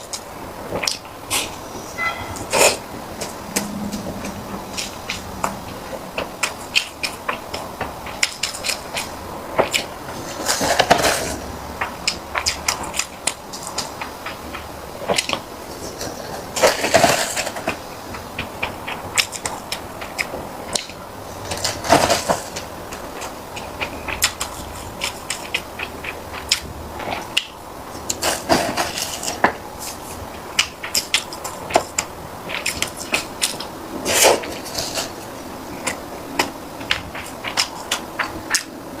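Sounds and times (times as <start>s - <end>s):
louder noisy eating sound: 0.0s - 39.0s
person chewing sticky food: 0.7s - 39.0s.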